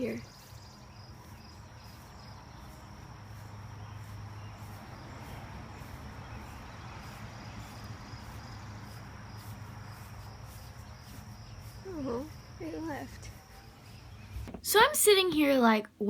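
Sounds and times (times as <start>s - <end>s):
insects chirping: 0.0s - 15.7s.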